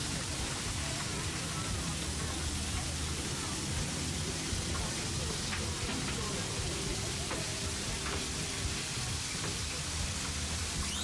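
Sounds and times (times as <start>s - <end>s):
faint voices: 0.0s - 10.9s
food sizzling: 0.0s - 11.0s.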